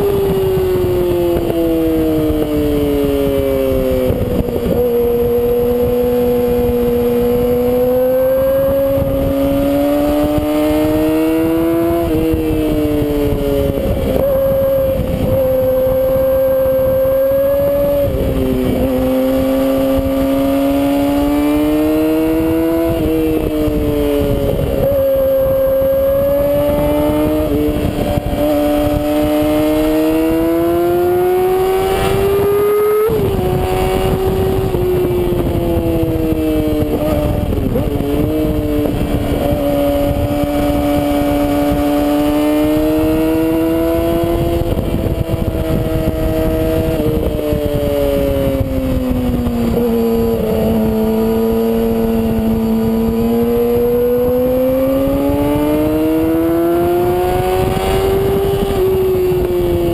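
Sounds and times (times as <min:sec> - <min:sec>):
motorcycle engine at high revs: 0:00.0 - 0:59.9
wind rushing over microphone: 0:00.0 - 0:59.9.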